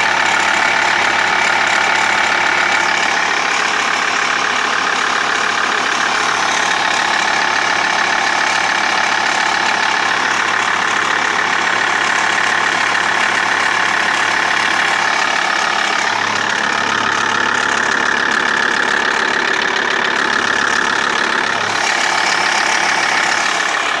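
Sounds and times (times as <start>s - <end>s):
diesel engine running: 0.0s - 24.0s
engine ticking: 0.0s - 24.0s.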